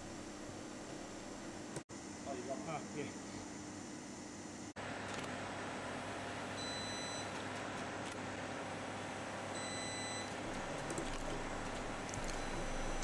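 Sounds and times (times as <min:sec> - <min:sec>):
spot welder humming: 0:00.0 - 0:05.3, 0:06.0 - 0:13.0.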